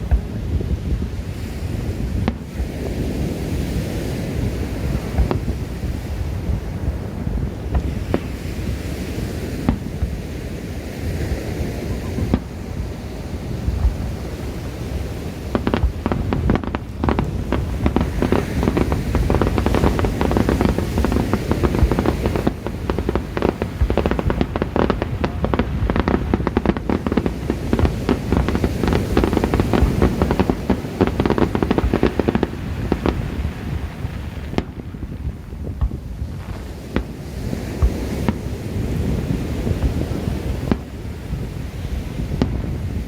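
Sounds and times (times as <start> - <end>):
fireworks booming and crackling: 0.0 - 43.0.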